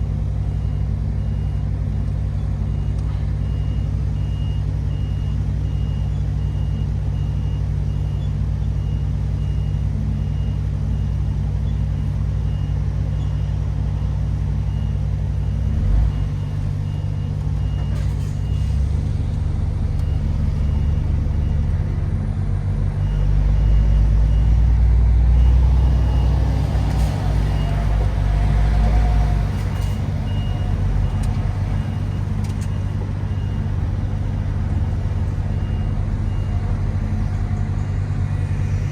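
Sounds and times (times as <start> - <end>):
diesel truck engine rumbling: 0.0 - 38.9.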